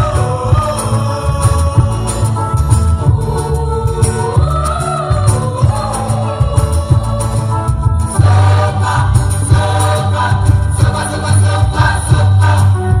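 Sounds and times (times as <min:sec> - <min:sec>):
choir singing in parts: 0:00.0 - 0:13.0
low bass accompaniment: 0:00.0 - 0:13.0.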